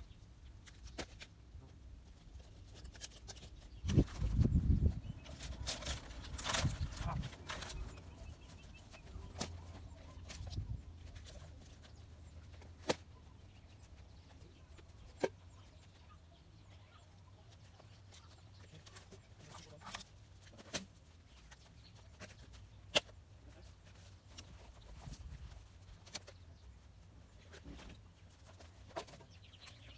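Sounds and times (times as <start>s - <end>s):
low steady background noise: 0.0s - 29.9s.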